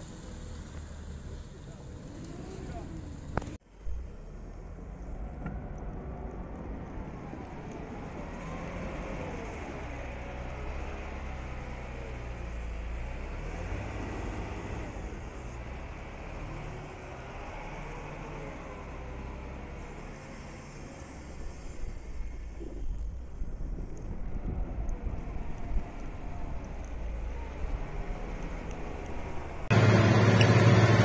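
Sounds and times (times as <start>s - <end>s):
heavy machine engine rumbling: 0.0s - 31.0s.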